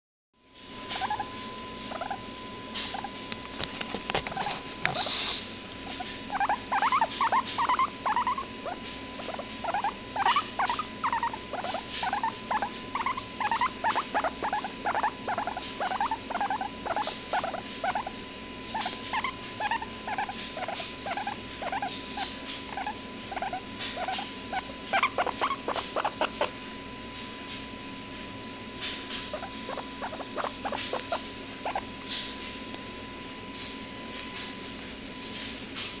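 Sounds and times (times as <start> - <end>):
guinea pig squeaking: 0.8 - 26.6, 28.8 - 32.5.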